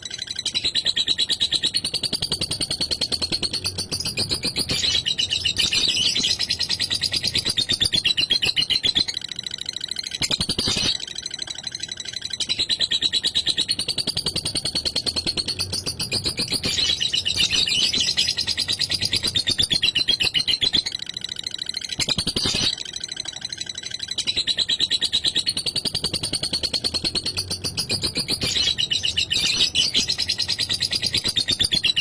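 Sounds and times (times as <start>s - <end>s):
bird chattering trill: 0.0s - 32.0s.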